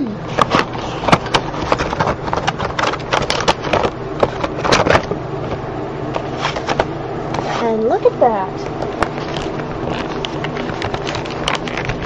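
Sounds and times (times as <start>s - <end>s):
cardboard and plastic crackling: 0.3s - 8.0s, 8.7s - 12.0s.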